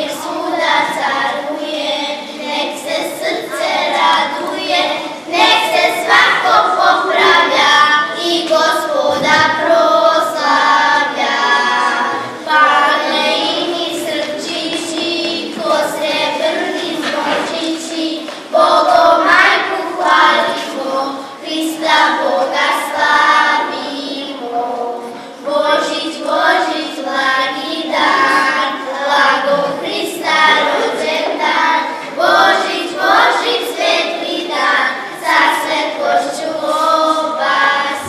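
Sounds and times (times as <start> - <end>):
girls singing unaccompanied: 0.0 - 38.0.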